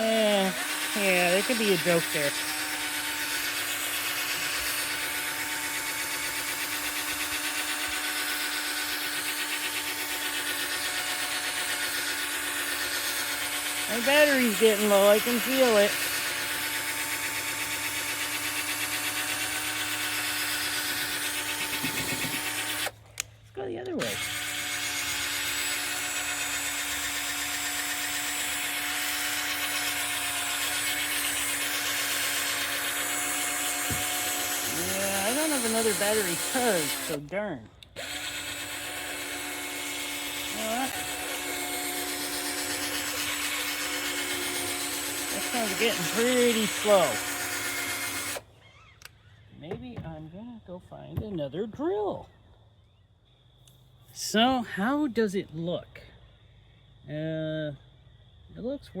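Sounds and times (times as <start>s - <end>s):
cordless drill running: 0.0s - 23.2s, 23.9s - 49.2s.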